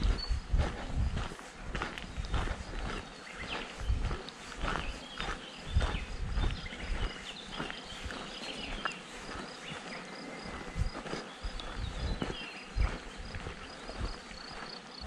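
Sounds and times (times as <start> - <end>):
birdsong: 0.0 - 15.0
footsteps on dirt path: 0.0 - 15.0.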